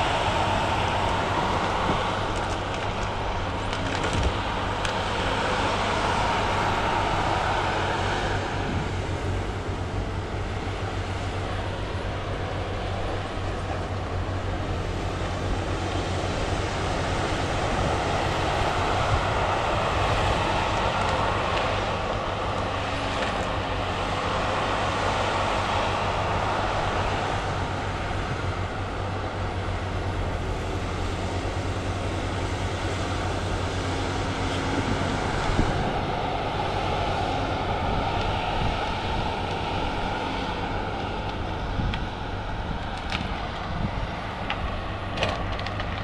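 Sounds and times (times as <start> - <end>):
diesel engine and hydraulics: 0.0 - 46.0.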